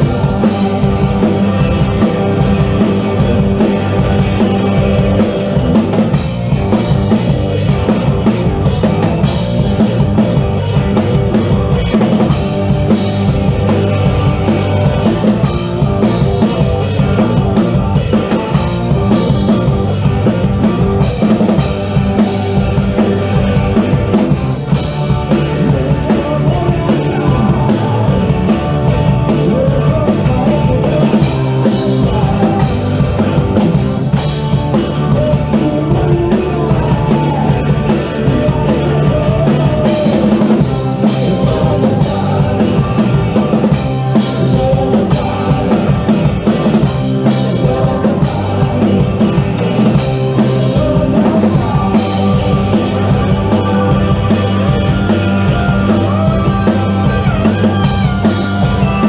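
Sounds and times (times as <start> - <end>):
drum kit beat: 0.0 - 59.0
rock band playing: 0.0 - 59.0.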